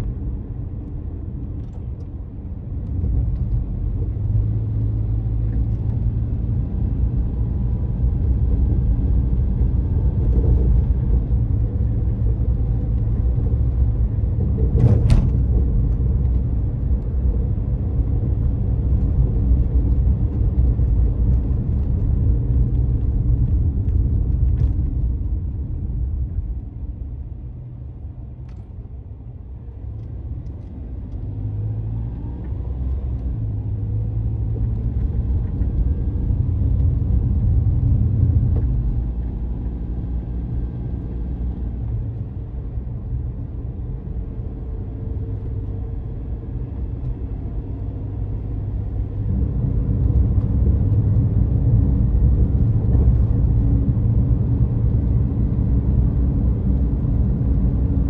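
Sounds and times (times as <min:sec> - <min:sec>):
engine and road noise rumble: 0:00.0 - 0:58.0.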